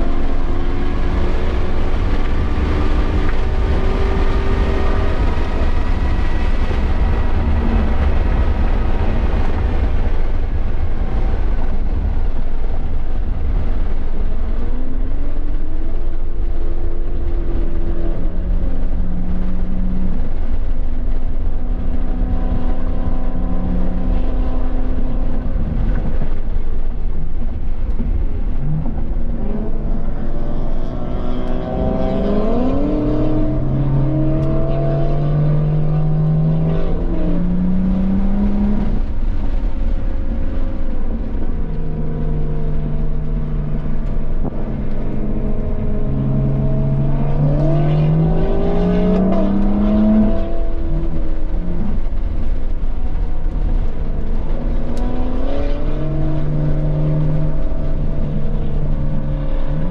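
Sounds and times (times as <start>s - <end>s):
car engine accelerating through gears: 0.0s - 59.9s
low road rumble: 0.0s - 59.9s.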